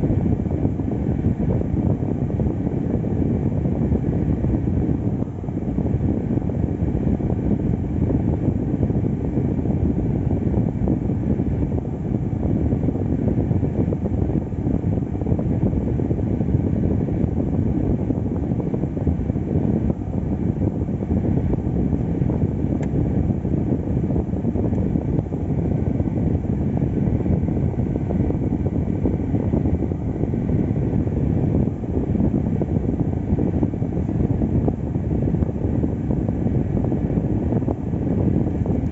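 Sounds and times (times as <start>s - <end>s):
rushing air: 0.0s - 38.9s
car cabin rumble: 0.1s - 38.9s.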